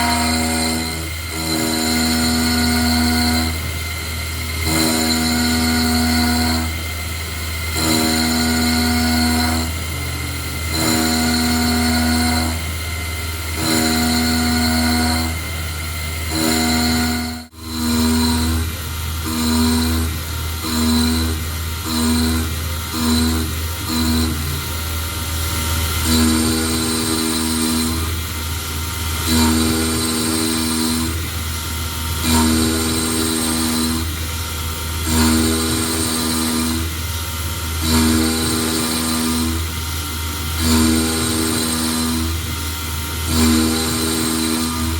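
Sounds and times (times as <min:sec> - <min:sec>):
milling machine hum: 0:00.0 - 0:44.9
pitched machine whine: 0:00.0 - 0:44.9.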